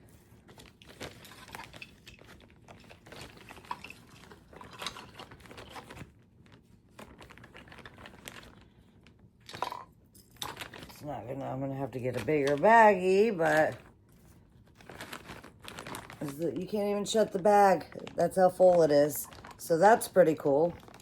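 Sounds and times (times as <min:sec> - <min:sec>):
plastic bag rustling: 0:00.0 - 0:21.0.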